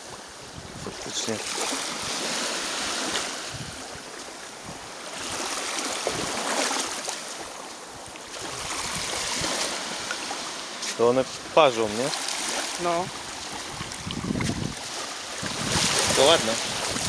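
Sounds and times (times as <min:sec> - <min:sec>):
small waves washing on sand: 0:00.0 - 0:17.0.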